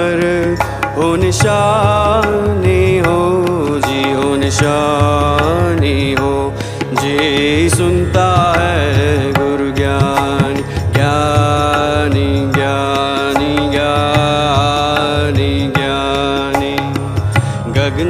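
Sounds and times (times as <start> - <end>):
devotional vocal melody: 0.0 - 18.0
tabla rhythm: 0.0 - 18.0.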